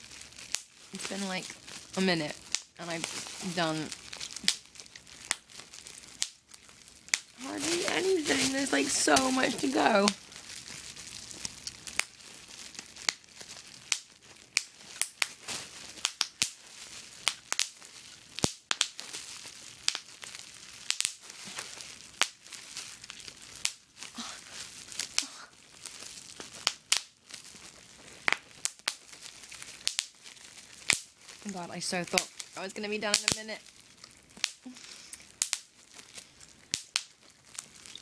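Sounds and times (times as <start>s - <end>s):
bubble wrap crinkling: 0.0s - 38.0s
bubble wrap popping: 0.0s - 38.0s.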